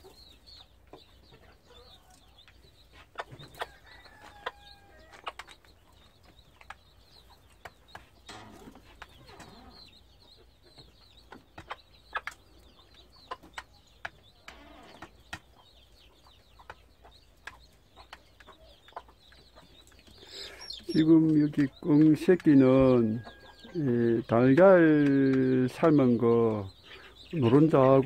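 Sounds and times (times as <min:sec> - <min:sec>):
chicks peeping: 0:00.0 - 0:28.0
hen clucking: 0:00.0 - 0:28.0.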